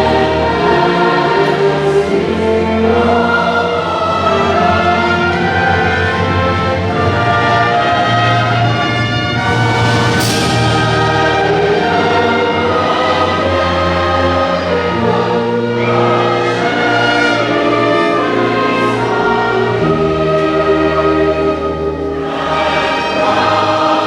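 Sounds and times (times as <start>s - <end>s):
choir singing held chords: 0.0s - 24.0s
orchestral music: 0.0s - 24.0s.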